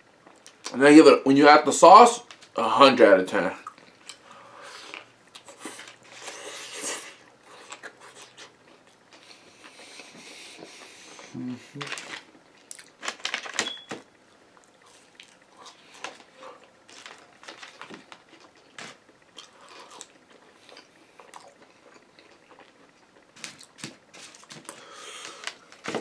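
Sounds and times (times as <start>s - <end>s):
person chewing food: 3.6s - 13.1s, 14.6s - 26.0s
food crunching: 3.6s - 13.6s, 14.6s - 26.0s.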